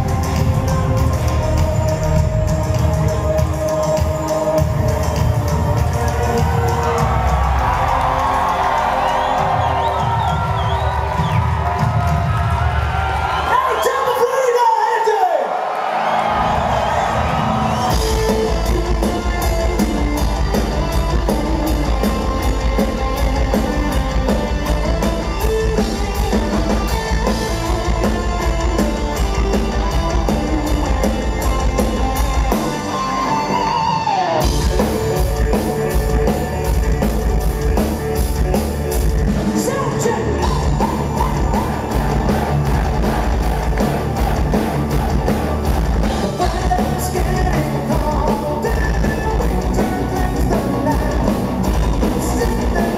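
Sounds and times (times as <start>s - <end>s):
power metal band playing live: 0.0s - 13.5s, 16.3s - 52.9s.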